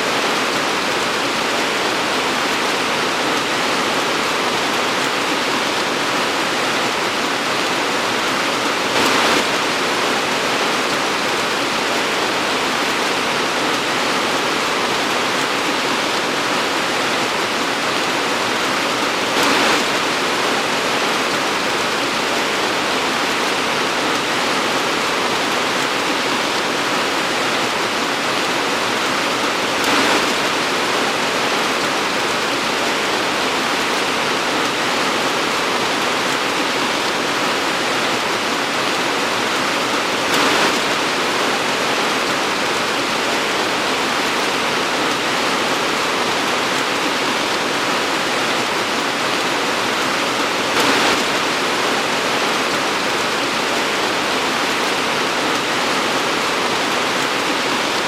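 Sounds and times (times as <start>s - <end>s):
torrential rain pouring: 0.0s - 58.0s.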